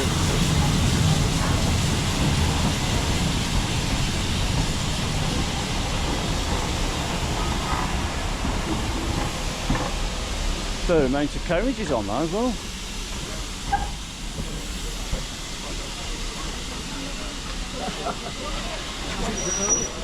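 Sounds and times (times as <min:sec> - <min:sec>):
train wheels rumbling past: 0:00.0 - 0:20.0.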